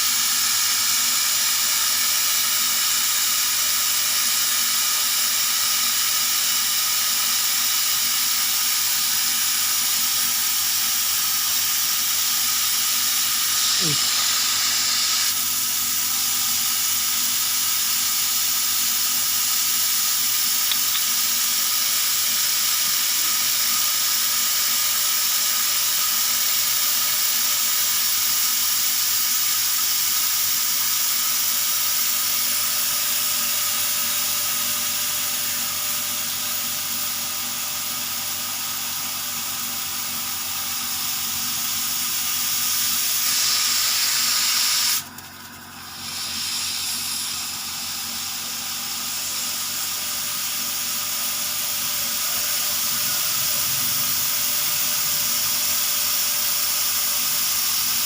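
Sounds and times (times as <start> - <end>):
steady hiss of air: 0.0 - 58.0.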